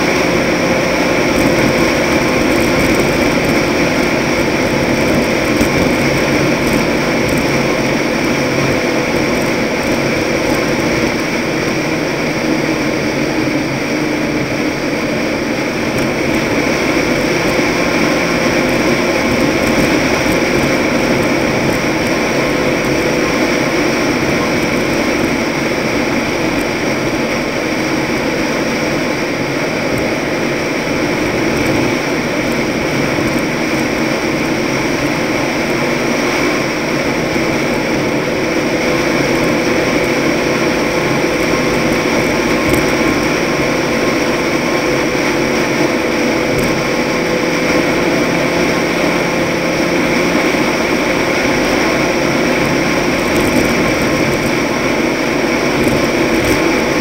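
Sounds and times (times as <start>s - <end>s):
truck driving at speed: 0.0s - 57.0s.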